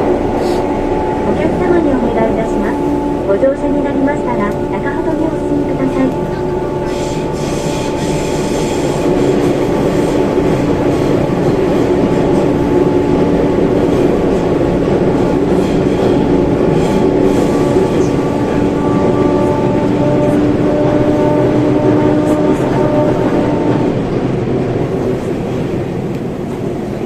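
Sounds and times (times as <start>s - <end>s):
subway wheels rumbling on track: 0.0s - 27.0s.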